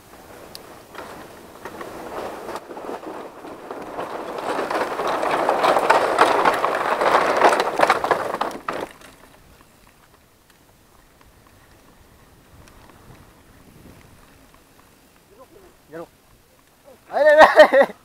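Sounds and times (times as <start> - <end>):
bike tyres clattering on boards: 0.0 - 16.6.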